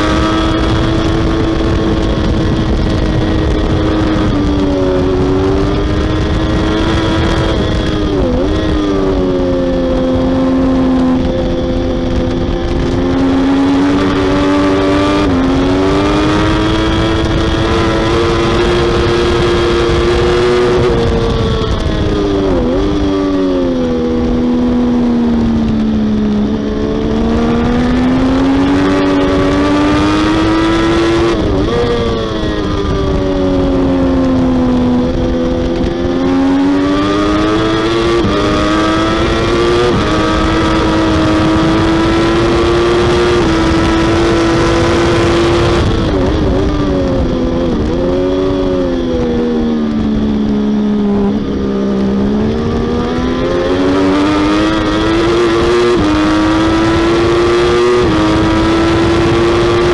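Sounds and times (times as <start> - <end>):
motorcycle engine at high revs: 0.0 - 59.9
wind rushing: 0.0 - 59.9.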